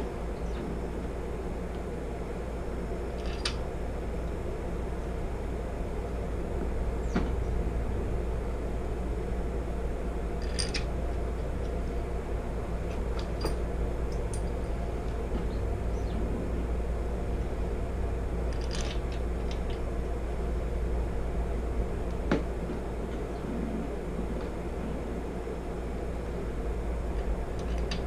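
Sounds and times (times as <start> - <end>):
garage hum: 0.0 - 28.0.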